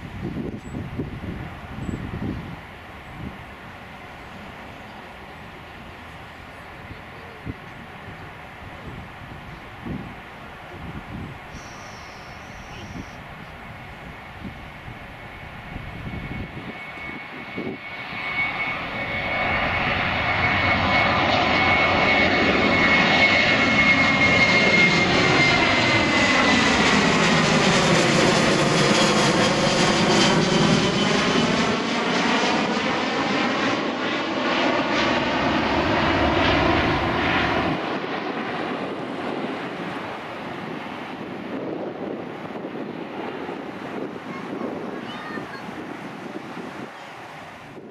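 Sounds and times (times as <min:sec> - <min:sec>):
high fan whine: 0:00.0 - 0:47.9
jet airliner passing overhead: 0:00.0 - 0:47.9.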